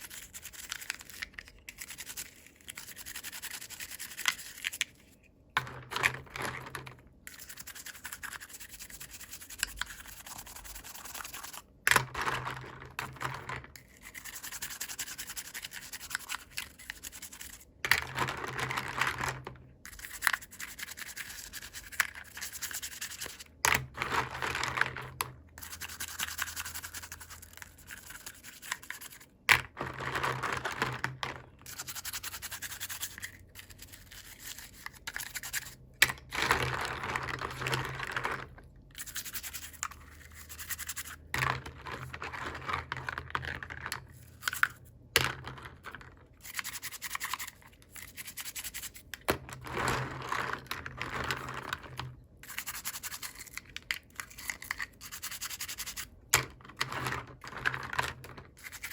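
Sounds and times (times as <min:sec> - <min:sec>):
hands scratching toy packaging: 0:00.0 - 0:05.2, 0:05.8 - 0:44.8, 0:45.4 - 0:56.1, 0:56.7 - 0:58.9.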